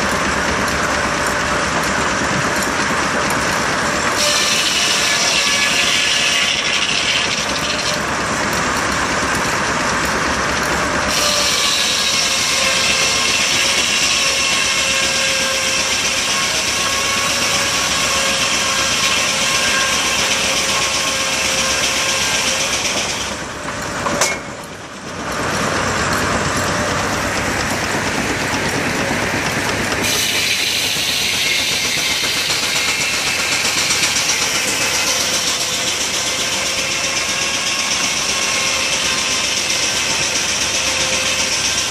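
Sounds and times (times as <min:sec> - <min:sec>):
high steam hissing: 0:00.0 - 0:24.1, 0:25.0 - 0:41.9
steam engine sawmill machinery: 0:00.0 - 0:41.9.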